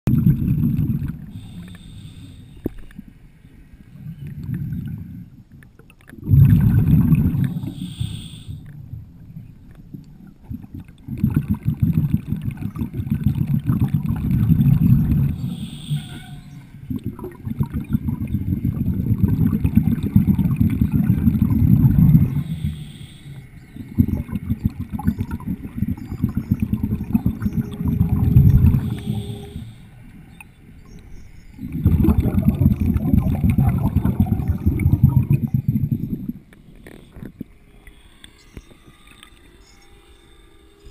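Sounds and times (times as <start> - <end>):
muffled underwater rumbling: 0.1 - 1.5, 3.9 - 37.7.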